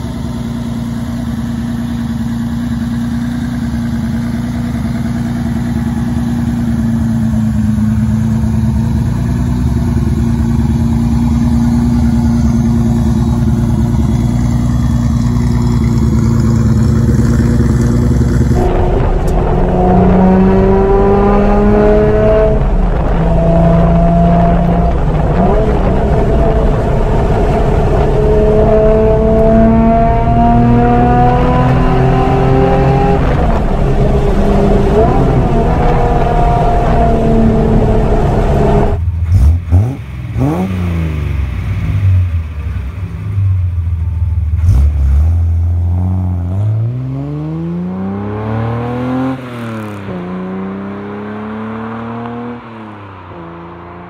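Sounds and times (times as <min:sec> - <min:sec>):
passing car engine: 0:02.4 - 0:54.0
car engine revving through gears: 0:04.8 - 0:42.3, 0:44.6 - 0:54.0.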